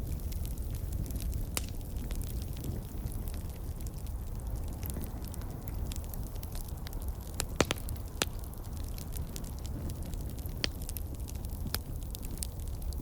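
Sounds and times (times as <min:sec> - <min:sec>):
campfire crackling: 0:00.0 - 0:13.0
sharp fire pops: 0:00.0 - 0:13.0.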